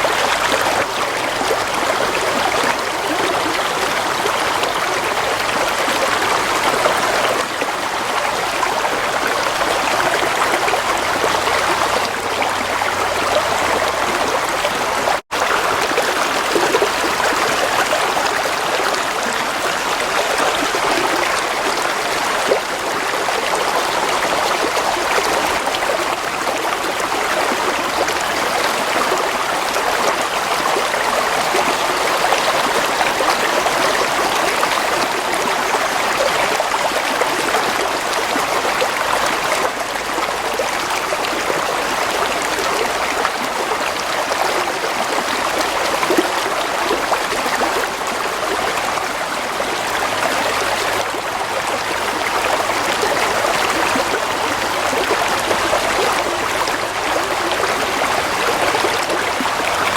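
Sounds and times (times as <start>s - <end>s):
stream water burbling: 0.0s - 59.9s.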